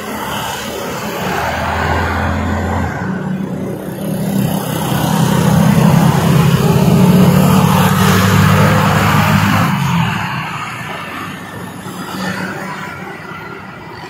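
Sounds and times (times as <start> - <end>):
highway traffic hum: 0.0 - 14.0.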